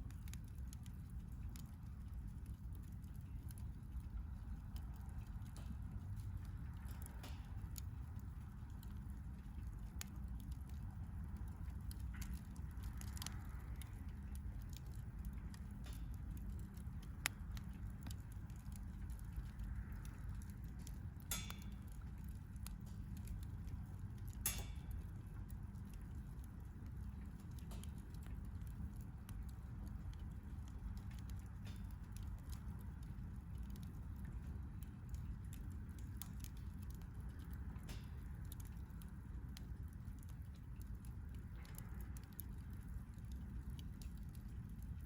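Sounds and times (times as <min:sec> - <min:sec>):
campfire crackling and popping: 0:00.0 - 0:45.0
steady low rumble: 0:00.0 - 0:45.0.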